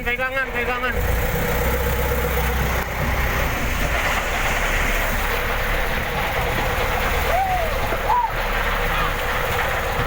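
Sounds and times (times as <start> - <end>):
boat engine running: 0.0 - 10.0
wind: 0.0 - 10.0.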